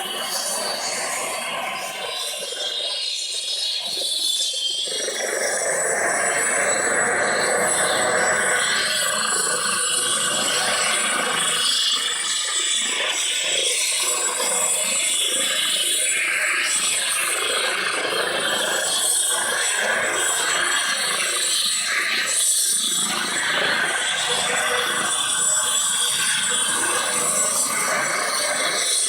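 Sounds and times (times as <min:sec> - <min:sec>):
helicopter turbine running: 0:04.9 - 0:29.0.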